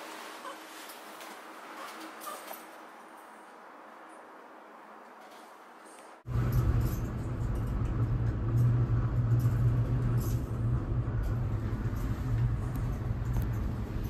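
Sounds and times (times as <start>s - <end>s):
gondola low hum and rumble: 0.0s - 14.0s.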